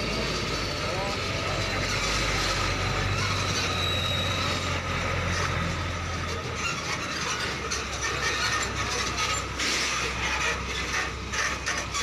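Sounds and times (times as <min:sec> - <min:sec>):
trailer clanking and squeaking: 0:00.0 - 0:12.0
truck diesel engine running: 0:00.0 - 0:12.0.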